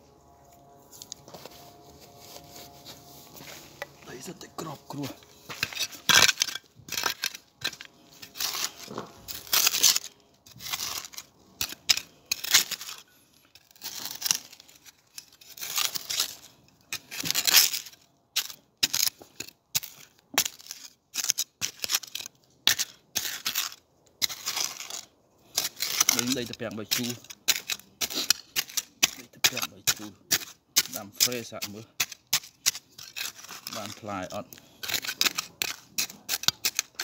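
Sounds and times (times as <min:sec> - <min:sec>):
trowel scraping stony soil: 0:00.0 - 0:37.0.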